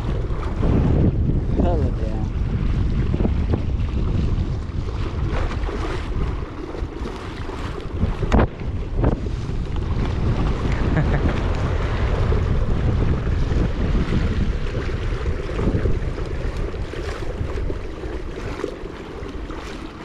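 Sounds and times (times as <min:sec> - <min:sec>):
water lapping against kayak hull: 0:00.0 - 0:20.0
wind buffeting microphone: 0:00.0 - 0:20.0.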